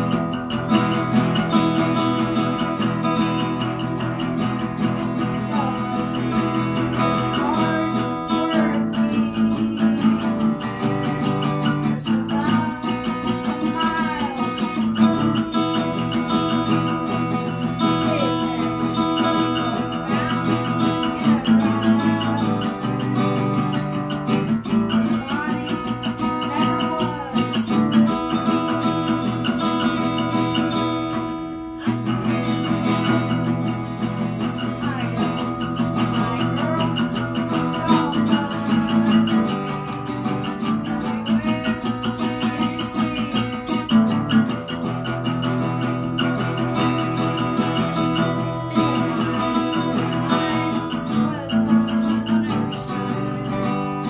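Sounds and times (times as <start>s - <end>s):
acoustic guitar strumming: 0.0s - 54.0s
person singing: 0.0s - 54.0s.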